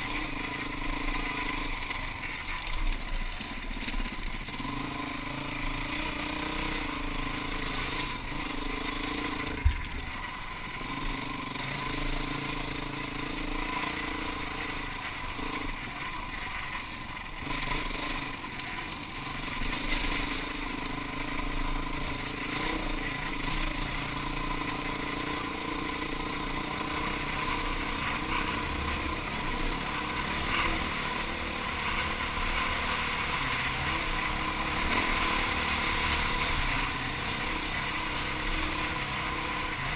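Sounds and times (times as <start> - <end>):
motorcycle engine revving: 0.0 - 39.9
wind and tyre noise: 0.0 - 39.9.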